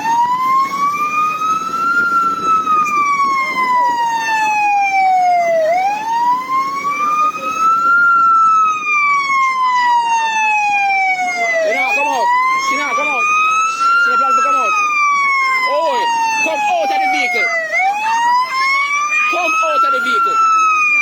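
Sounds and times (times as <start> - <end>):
low rumble of vehicles: 0.0 - 21.0
police siren wailing: 0.0 - 21.0.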